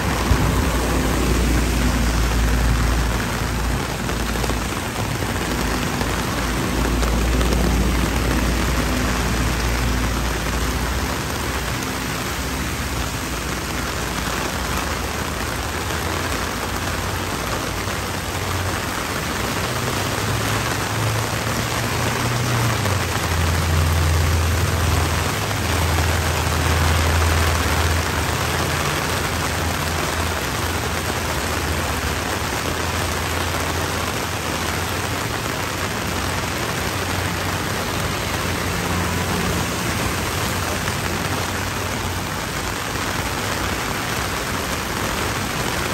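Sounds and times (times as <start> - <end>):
torrential rain on pavement: 0.0 - 45.9.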